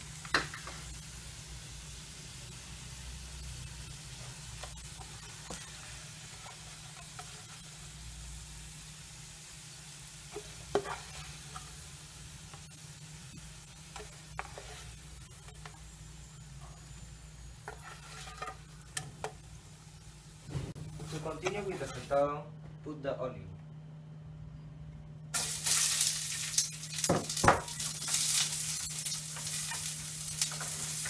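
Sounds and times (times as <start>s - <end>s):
potato wedges sizzling in oil: 0.0s - 20.5s, 25.4s - 31.0s.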